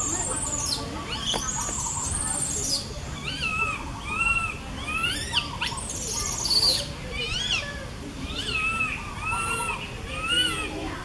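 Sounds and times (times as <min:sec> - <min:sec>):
baby monkey coo calls: 0:00.0 - 0:11.0.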